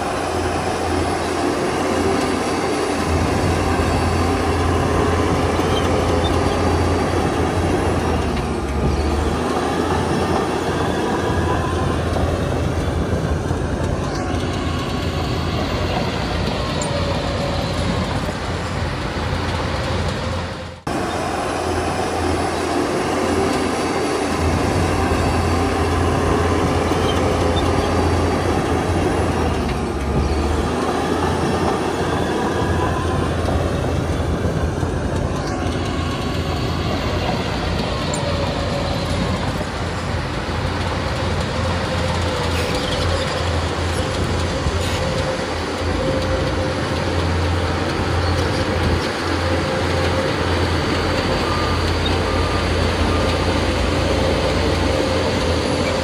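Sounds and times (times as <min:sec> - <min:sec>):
bulldozer diesel engines under load: 0:00.0 - 0:56.0
steel tracks clattering: 0:00.0 - 0:56.0.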